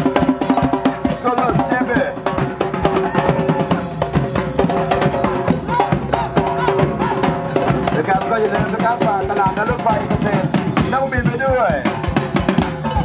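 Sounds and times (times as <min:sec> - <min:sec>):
drums playing fast rhythm: 0:00.0 - 0:13.0.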